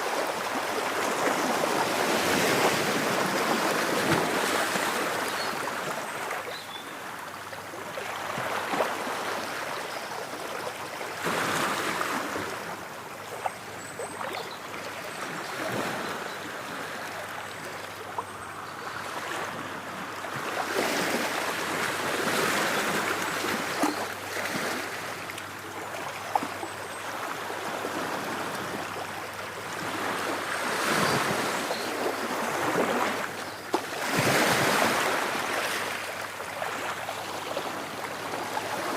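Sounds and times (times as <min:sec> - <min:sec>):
ocean waves breaking on shore: 0:00.0 - 0:17.4, 0:18.8 - 0:38.9.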